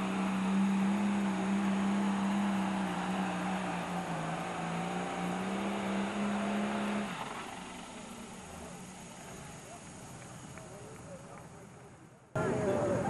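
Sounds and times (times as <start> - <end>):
diesel tractor engine under load: 0.0 - 13.0.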